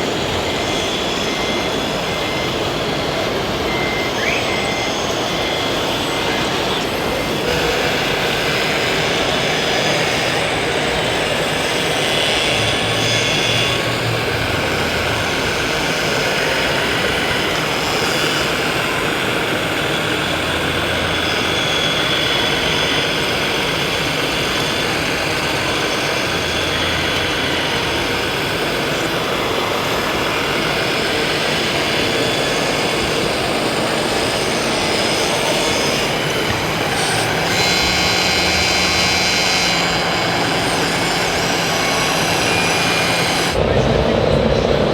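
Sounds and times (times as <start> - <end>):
continuous rushing background: 0.0 - 44.9
model engine drone: 0.0 - 44.9.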